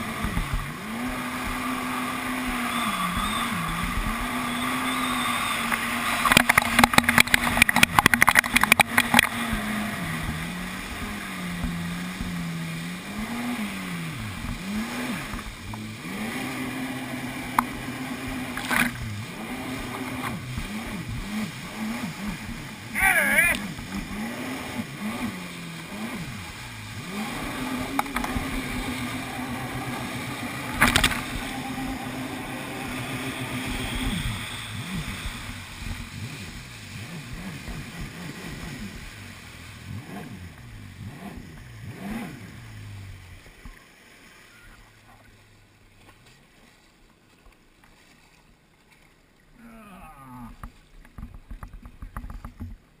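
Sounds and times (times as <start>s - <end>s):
jet ski engine running: 0.0s - 53.0s
water rushing and spray: 0.0s - 53.0s.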